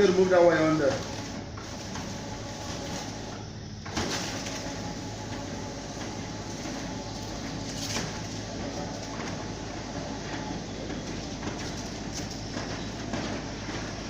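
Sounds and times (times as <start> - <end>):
low motor hum: 0.0 - 14.0
roller shutter door rattling: 0.0 - 14.0.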